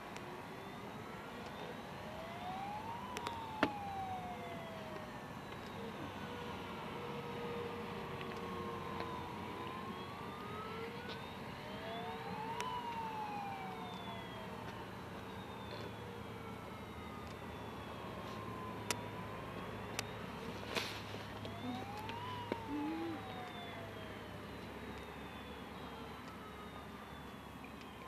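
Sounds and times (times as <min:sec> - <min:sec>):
model boat siren wailing: 0:00.0 - 0:28.0.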